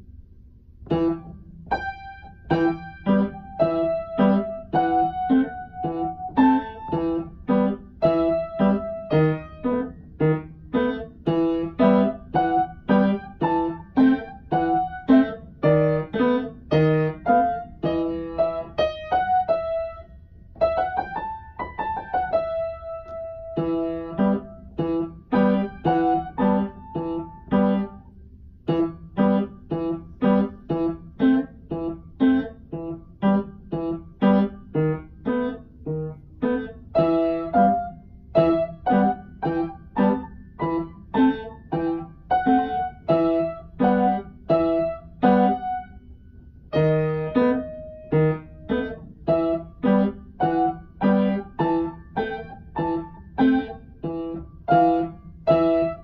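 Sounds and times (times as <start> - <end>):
upright piano playing: 0.8 - 56.0.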